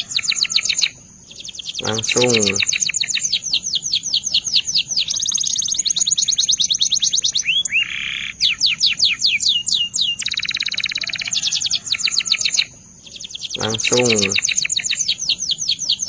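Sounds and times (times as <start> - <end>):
canary singing high trills: 0.0 - 16.0.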